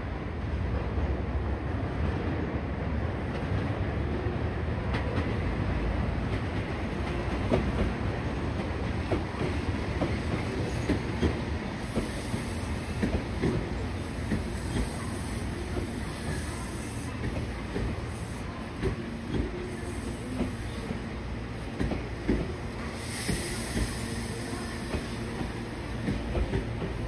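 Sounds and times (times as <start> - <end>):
train running rumble: 4.8 - 27.0.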